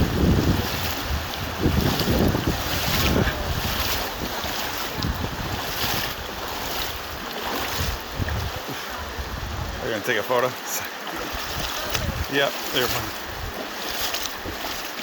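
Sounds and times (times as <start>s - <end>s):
wind buffeting microphone: 0.0s - 10.0s, 11.2s - 14.8s
river water flowing: 0.0s - 15.0s.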